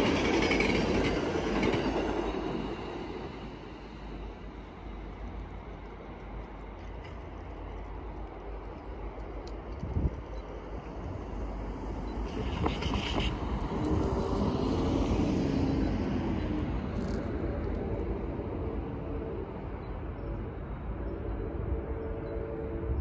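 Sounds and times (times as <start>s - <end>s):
car crossing railroad crossing: 0.0s - 23.0s
road traffic rumble: 2.4s - 23.0s.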